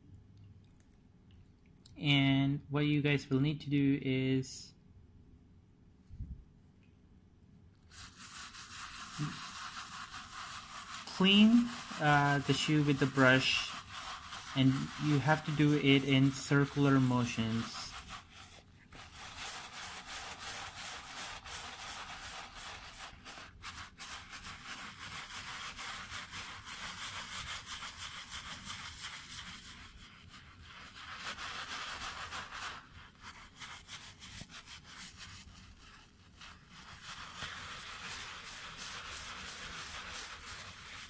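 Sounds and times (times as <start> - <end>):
brush scrubbing a sneaker: 7.8 - 41.0.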